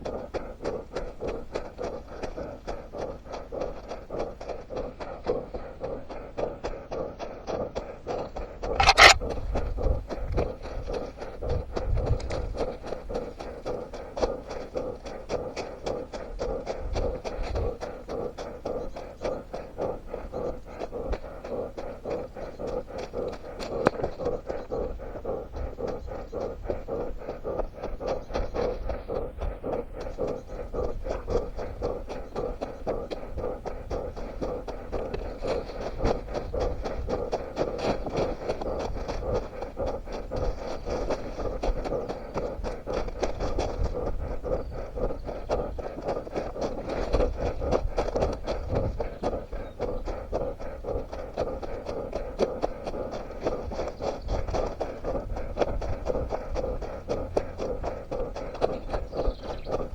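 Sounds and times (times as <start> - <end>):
runner's footsteps: 0.0 - 59.9.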